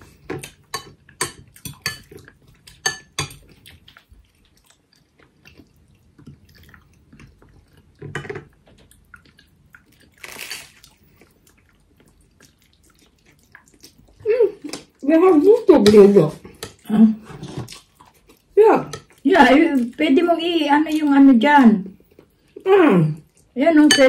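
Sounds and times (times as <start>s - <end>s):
chewing and mouth sounds: 0.0s - 21.2s, 21.8s - 23.6s.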